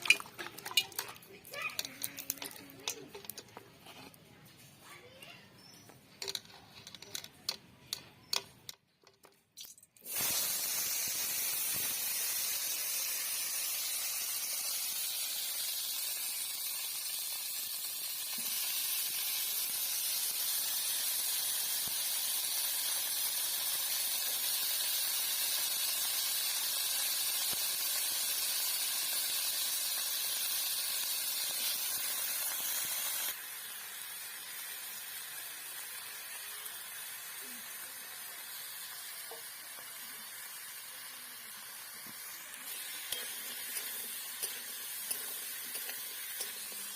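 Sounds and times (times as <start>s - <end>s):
food sizzling in hot oil: 0.0s - 3.5s, 9.6s - 46.9s.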